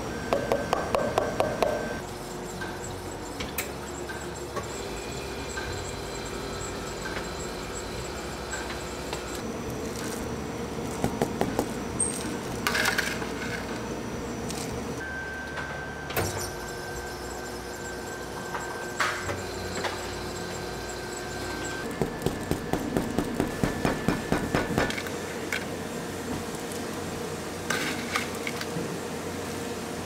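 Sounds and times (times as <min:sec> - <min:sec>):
ice cream machine whirring: 0:00.0 - 0:30.0.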